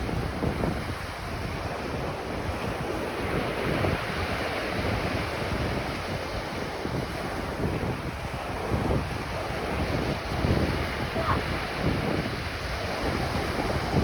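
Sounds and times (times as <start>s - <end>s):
ocean surf washing onto beach: 0.0s - 14.0s
wind buffeting microphone: 0.0s - 14.0s.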